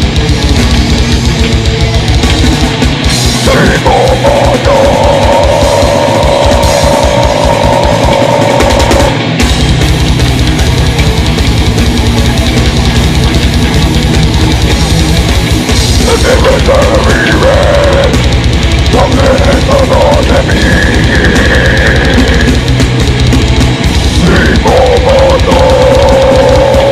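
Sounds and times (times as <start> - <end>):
heavy metal band playing live: 0.0 - 26.9
rapid kick drum: 0.0 - 26.9.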